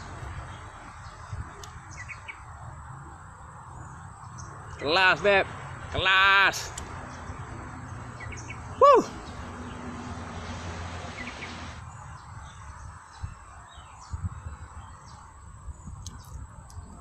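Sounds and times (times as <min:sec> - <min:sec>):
bird chirps: 0:00.0 - 0:05.1, 0:07.1 - 0:09.9, 0:11.0 - 0:17.0.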